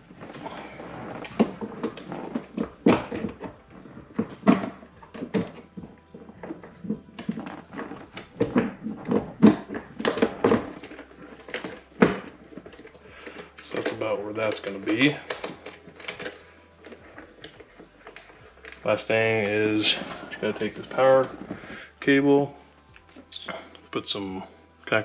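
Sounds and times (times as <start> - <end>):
plastic clacks and rattles: 0.2 - 21.7.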